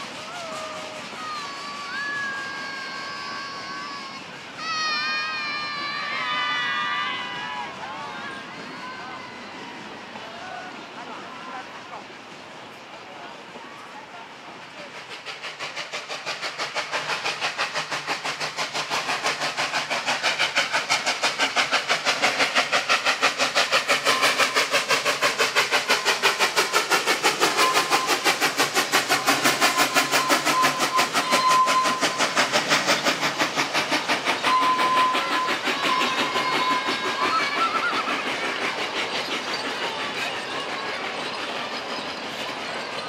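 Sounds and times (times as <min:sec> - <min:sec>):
steam locomotive passing: 0:00.0 - 0:43.0.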